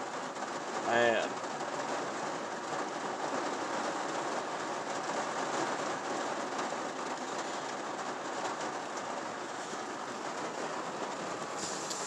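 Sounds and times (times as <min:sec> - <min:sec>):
heavy rain on truck roof: 0:00.0 - 0:12.0.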